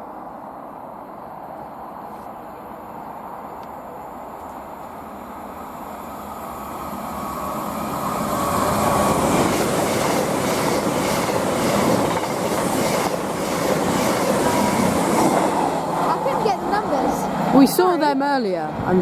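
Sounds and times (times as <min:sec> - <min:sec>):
diesel train passing at speed: 0:00.0 - 0:19.0.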